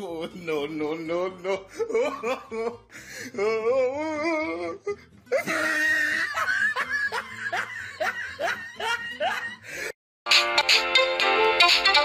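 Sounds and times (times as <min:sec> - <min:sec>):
person laughing: 0:00.0 - 0:09.9.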